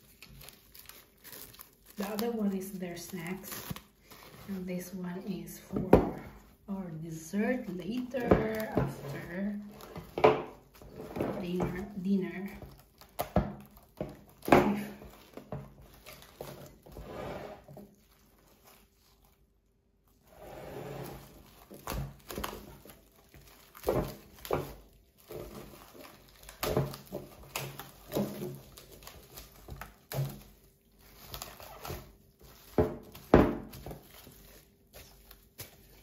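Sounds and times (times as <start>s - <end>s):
plastic wrap crinkling: 0.0s - 17.0s, 17.6s - 20.3s, 21.1s - 36.0s.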